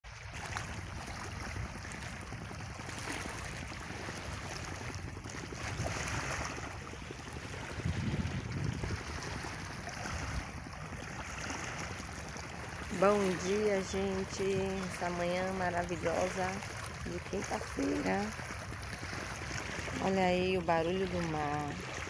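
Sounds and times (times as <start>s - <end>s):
wind rumbling on microphone: 0.1s - 22.0s
waves washing against rocks: 0.2s - 22.0s.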